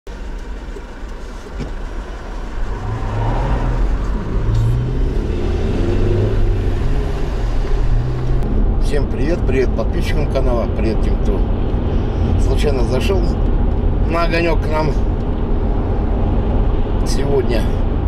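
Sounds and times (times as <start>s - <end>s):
car engine: 0.1s - 18.0s
road noise: 0.1s - 18.0s.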